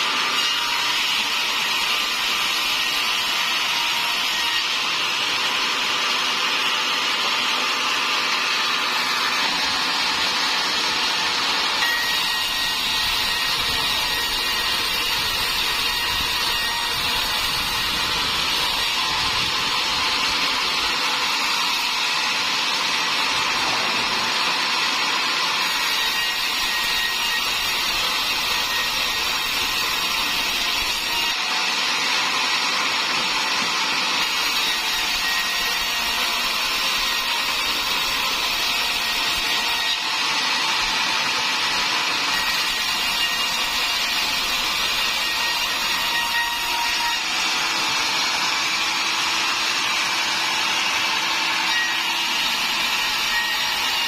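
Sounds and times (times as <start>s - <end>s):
sawmill saw cutting timber: 0.0s - 54.0s.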